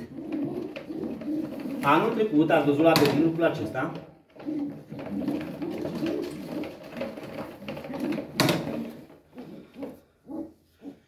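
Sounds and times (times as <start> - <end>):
pigeons cooing: 0.0 - 3.4, 4.2 - 11.0.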